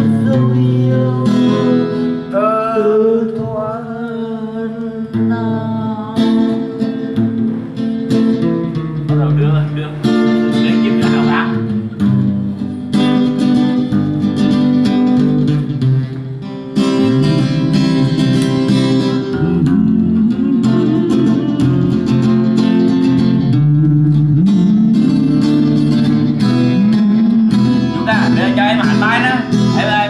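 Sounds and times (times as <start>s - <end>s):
acoustic guitar strummed and picked: 0.0s - 30.0s.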